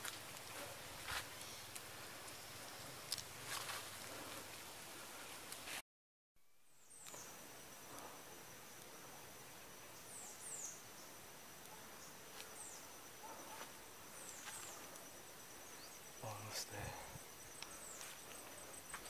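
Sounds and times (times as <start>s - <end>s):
insect drone: 0.0s - 5.7s, 6.4s - 19.0s.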